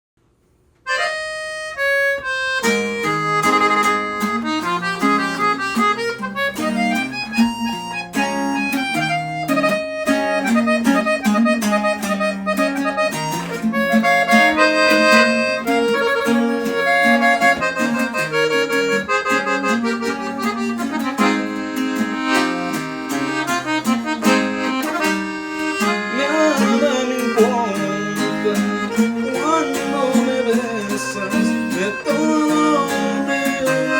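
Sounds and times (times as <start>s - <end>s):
accordion melody: 0.8s - 33.9s
strummed guitar: 0.9s - 33.9s.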